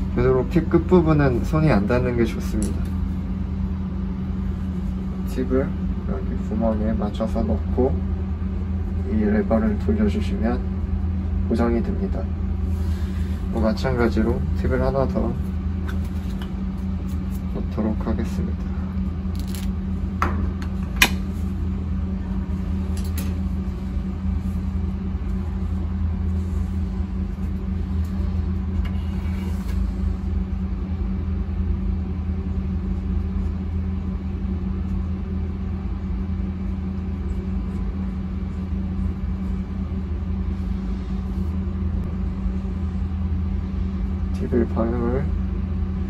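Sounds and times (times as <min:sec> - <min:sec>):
vacuum pump low drone: 0:00.0 - 0:46.0.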